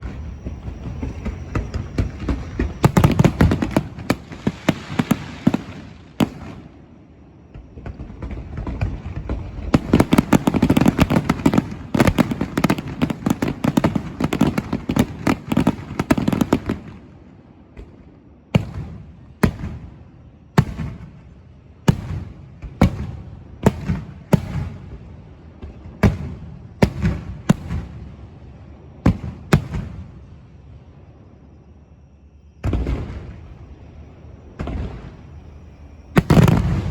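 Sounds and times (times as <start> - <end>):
fireworks crackling bangs: 0.0 - 6.9, 7.5 - 30.5, 32.6 - 33.8, 34.5 - 36.9
fireworks booming: 0.0 - 31.0, 32.6 - 36.9.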